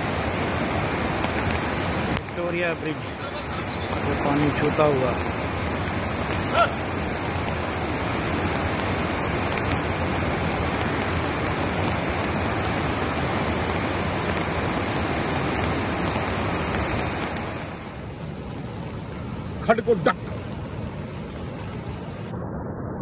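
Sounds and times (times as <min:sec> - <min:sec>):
floodwater rushing: 0:00.0 - 0:22.3.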